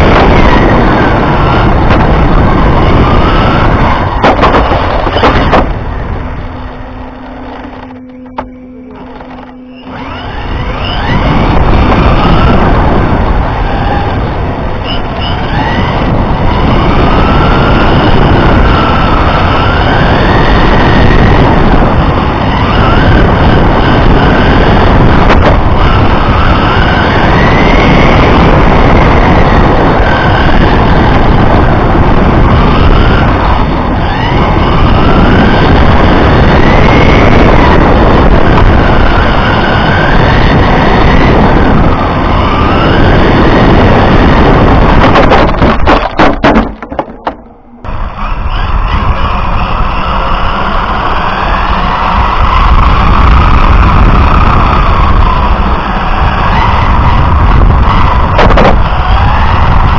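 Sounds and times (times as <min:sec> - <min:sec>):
electric motor whine: 0:00.0 - 0:59.9
road rumble and vibration: 0:00.0 - 0:59.9.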